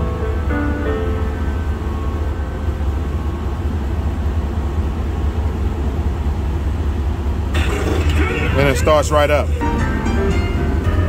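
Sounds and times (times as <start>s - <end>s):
diesel generator starting: 0.0s - 11.0s
low mechanical rumble: 0.0s - 11.0s.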